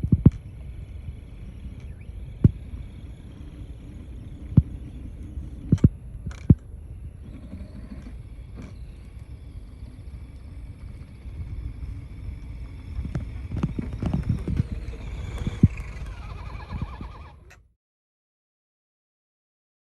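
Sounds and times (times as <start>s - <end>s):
electric motor whine: 0.0s - 17.6s
low rumbling: 0.0s - 17.6s.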